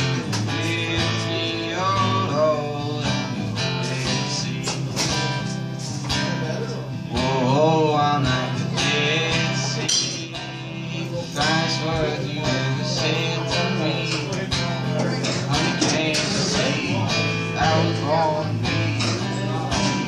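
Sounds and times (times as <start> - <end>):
acoustic guitar strumming: 0.0 - 20.0
man singing: 0.0 - 20.0.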